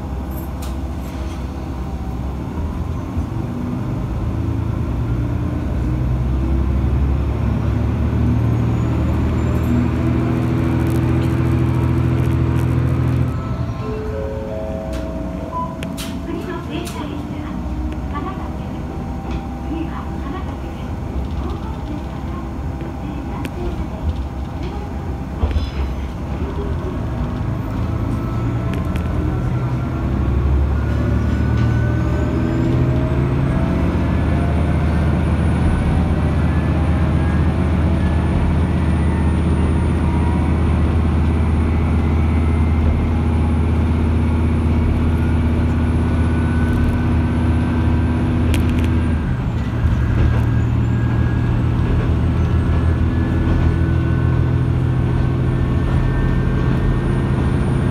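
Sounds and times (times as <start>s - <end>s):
diesel railcar running: 0.0s - 57.9s
rising engine whine: 0.0s - 57.9s.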